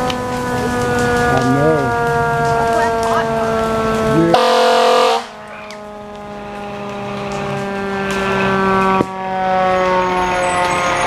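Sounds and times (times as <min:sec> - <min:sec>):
emergency vehicle siren: 0:00.0 - 0:11.0.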